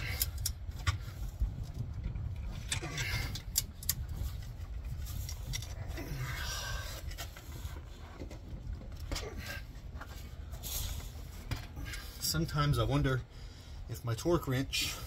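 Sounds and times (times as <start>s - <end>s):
low rumble of handling noise: 0.0s - 15.0s.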